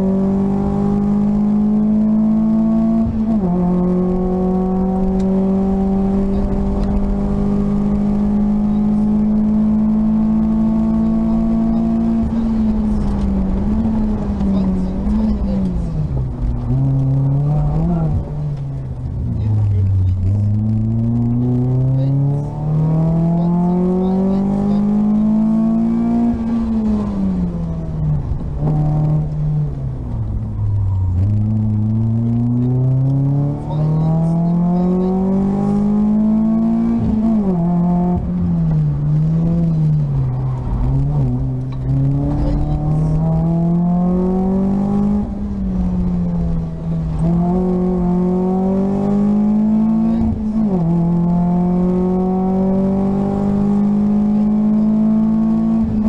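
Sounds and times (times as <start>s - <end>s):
car engine revving: 0.0s - 56.0s
road noise rumble: 0.0s - 56.0s.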